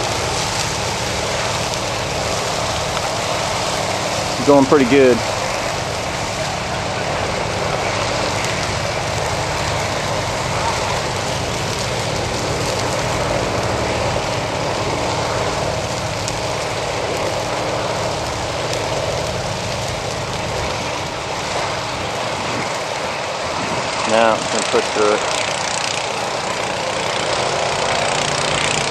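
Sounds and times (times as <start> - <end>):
fire burning with rush: 0.0 - 28.9
fire crackling: 0.0 - 28.9
fire engine idling hum: 0.0 - 28.9.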